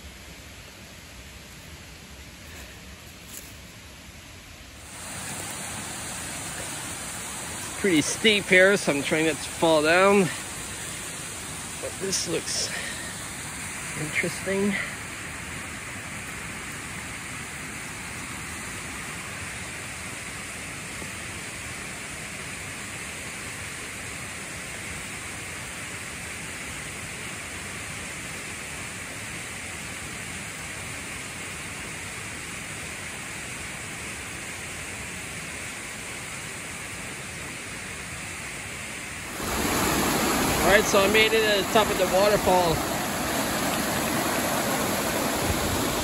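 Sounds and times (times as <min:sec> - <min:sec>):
creek water rushing: 0:00.0 - 0:46.0.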